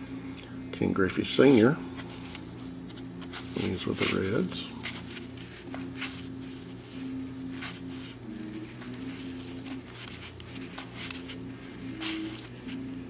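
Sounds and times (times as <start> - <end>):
steady low hum: 0.0 - 13.0
cards swishing: 1.5 - 13.0.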